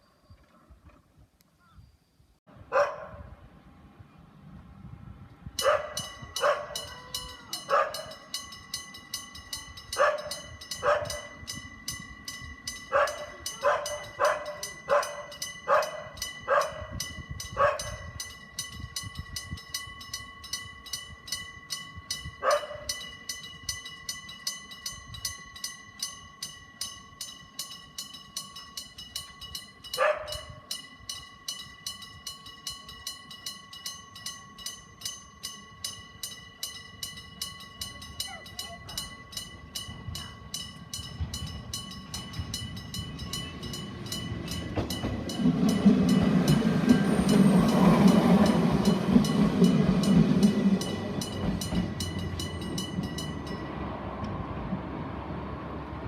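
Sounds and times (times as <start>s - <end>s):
level crossing warning bell: 5.5s - 54.8s.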